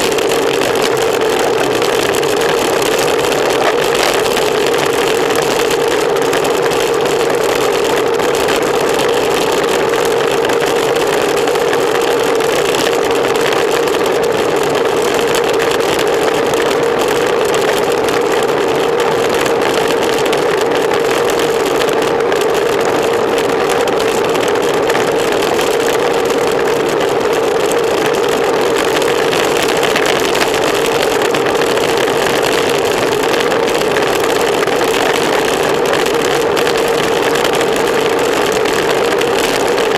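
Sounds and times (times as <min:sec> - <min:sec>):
tyre and road noise: 0:00.0 - 0:39.9
wind rushing over microphone: 0:00.0 - 0:39.9.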